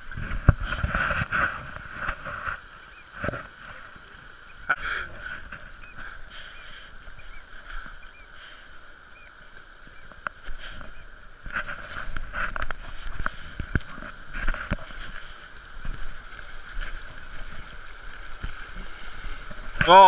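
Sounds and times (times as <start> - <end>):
river rushing over stones: 0.0 - 20.0.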